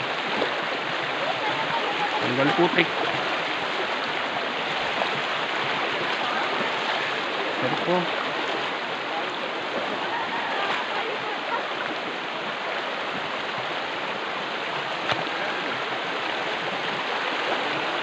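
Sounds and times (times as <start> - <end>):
mountain river rushing: 0.0 - 18.0.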